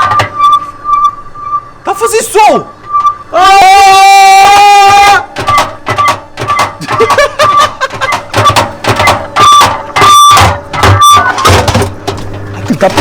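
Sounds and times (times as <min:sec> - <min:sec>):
washing machine hum: 0:00.0 - 0:13.0.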